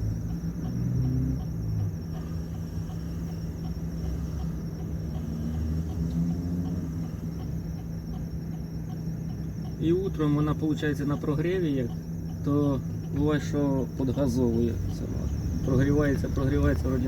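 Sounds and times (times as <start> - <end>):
car engine drone: 0.0 - 17.0
road noise: 0.0 - 17.0.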